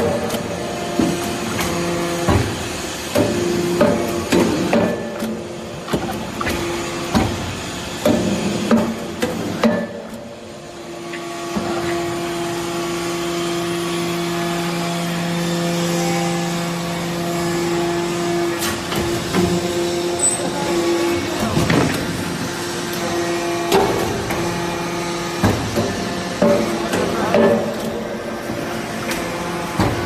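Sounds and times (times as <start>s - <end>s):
hydraulic machine hum: 0.0s - 30.0s.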